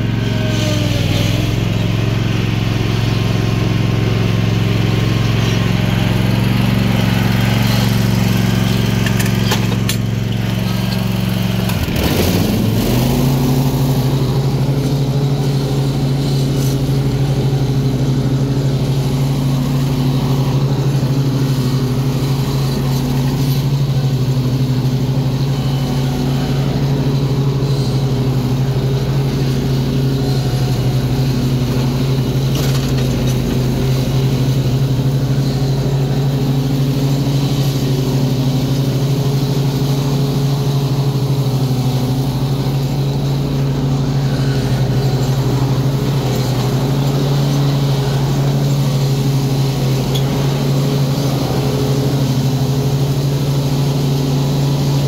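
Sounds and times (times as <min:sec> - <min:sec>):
mower engine running: 0:00.0 - 0:55.0.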